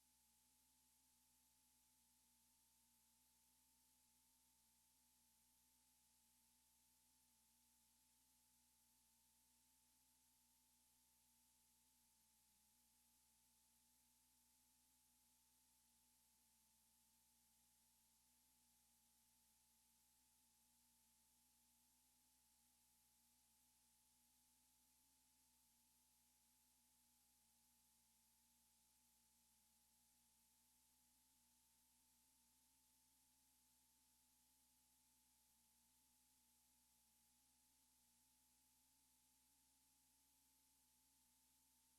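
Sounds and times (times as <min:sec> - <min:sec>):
faint low hum: 0:00.0 - 0:41.9
faint steady hiss: 0:00.0 - 0:41.9
faint steady tone: 0:00.0 - 0:41.9.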